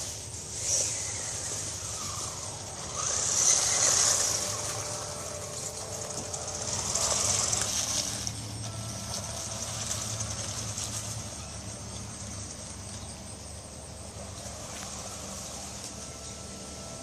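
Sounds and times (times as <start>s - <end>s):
rc truck motor whining: 0.0s - 17.0s.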